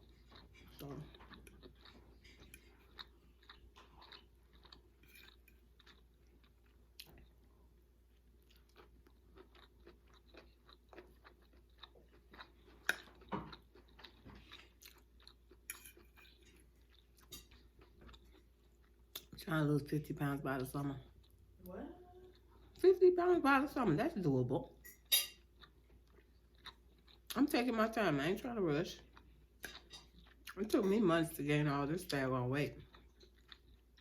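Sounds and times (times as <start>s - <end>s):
close chewing of food: 0.0s - 21.7s, 22.3s - 24.4s, 25.4s - 34.0s.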